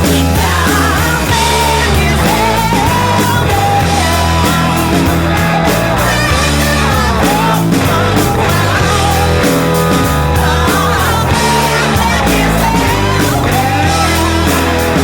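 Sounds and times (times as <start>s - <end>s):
rock music with singing: 0.0s - 15.0s.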